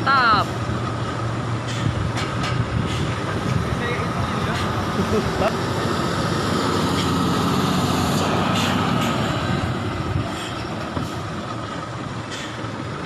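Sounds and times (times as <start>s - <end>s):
heavy truck engine: 0.0s - 13.0s
road noise: 0.0s - 13.0s.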